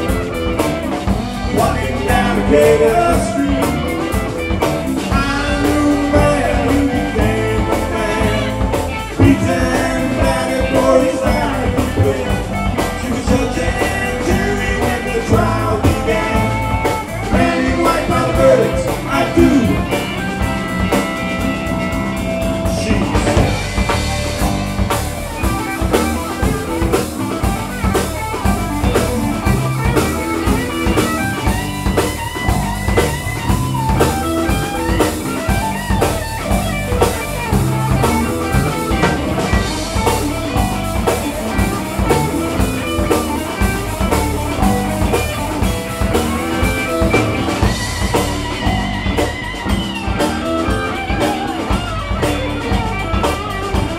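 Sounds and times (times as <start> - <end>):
drum kit beat: 0.0 - 53.9
guitars: 0.0 - 53.9.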